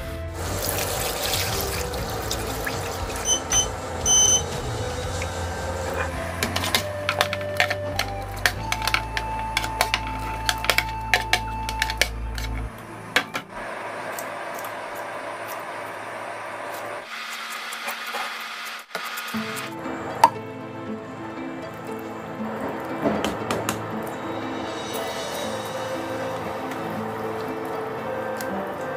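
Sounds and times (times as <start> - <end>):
pot hissing: 0.0 - 20.4, 23.7 - 28.9.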